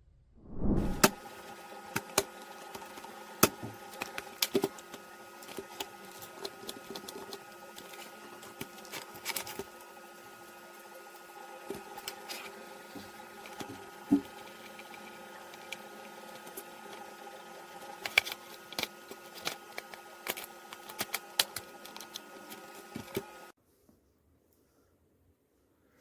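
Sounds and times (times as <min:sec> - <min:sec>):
small electric motor humming: 0:01.0 - 0:23.5.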